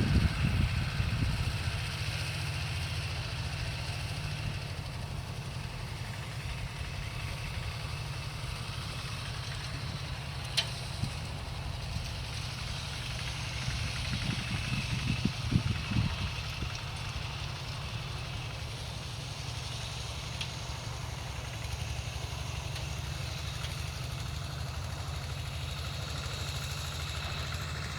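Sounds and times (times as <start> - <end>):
small engine running: 0.0 - 27.9.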